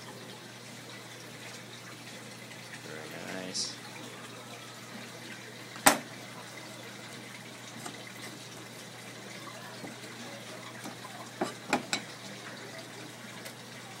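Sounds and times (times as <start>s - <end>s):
water running from a tap: 0.0s - 14.0s.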